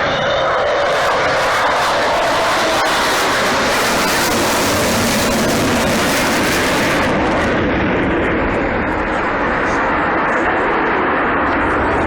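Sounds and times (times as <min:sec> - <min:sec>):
jet aircraft roar: 0:00.0 - 0:12.0.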